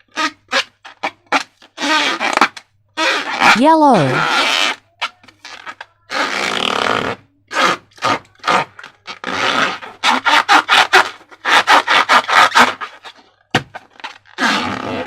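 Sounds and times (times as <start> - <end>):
slime scraping: 0.2 - 13.2.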